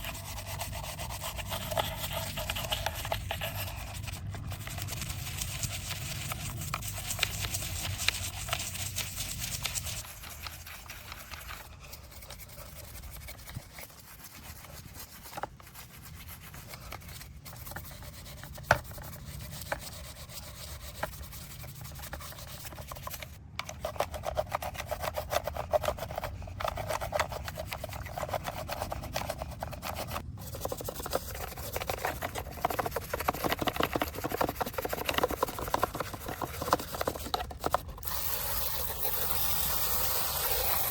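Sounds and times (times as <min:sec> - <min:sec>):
scrubbing model car: 0:00.0 - 0:40.9.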